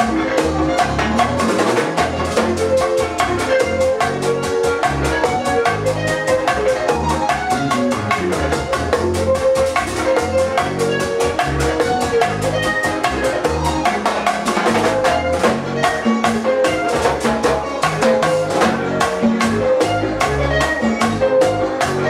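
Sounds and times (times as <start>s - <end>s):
bass: 0.0s - 22.0s
fast percussion beat: 0.0s - 22.0s
guitar: 0.0s - 22.0s
keyboard: 0.0s - 22.0s.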